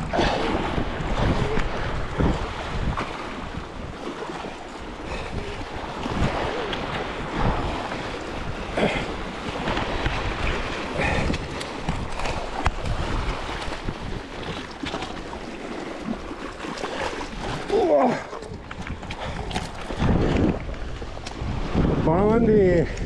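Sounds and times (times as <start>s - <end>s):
waves splashing against rocks: 0.0s - 23.0s
wind buffeting microphone: 0.0s - 23.0s.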